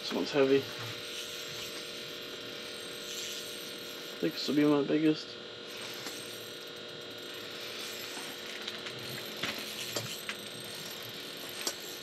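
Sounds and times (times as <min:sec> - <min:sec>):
fishing reel gears whirring: 0:00.0 - 0:12.0.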